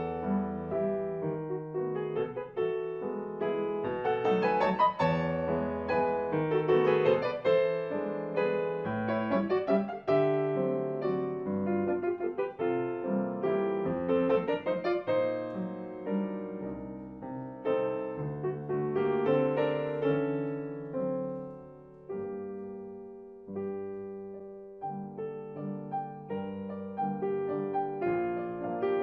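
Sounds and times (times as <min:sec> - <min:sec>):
solo classical piano: 0:00.0 - 0:29.0.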